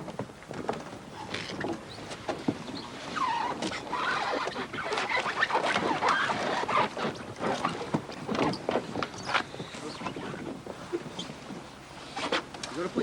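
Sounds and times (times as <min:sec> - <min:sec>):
plastic kayaks and paddles knocking: 0:00.0 - 0:13.0.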